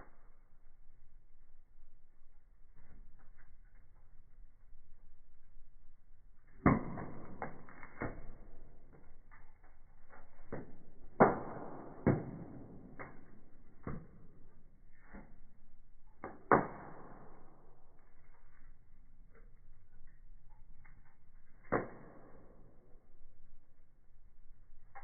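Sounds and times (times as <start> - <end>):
firewood crackling and popping: 0.0 - 25.0.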